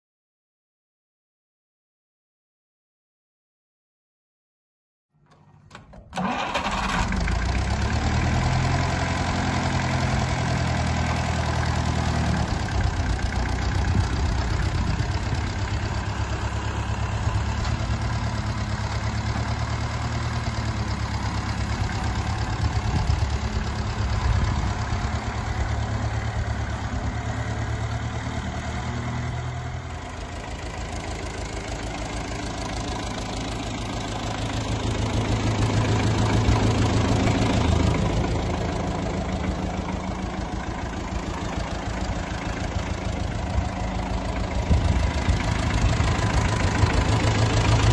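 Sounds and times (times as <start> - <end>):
tractor diesel engine idling: 5.3 - 47.9.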